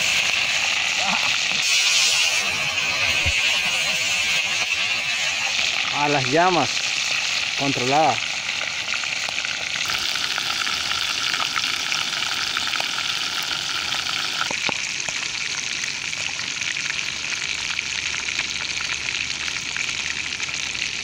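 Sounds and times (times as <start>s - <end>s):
fish sizzling in a pan: 0.0s - 21.0s.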